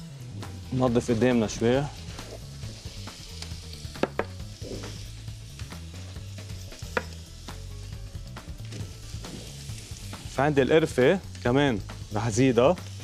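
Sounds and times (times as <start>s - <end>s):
food sizzling in frying pan: 0.2s - 13.0s.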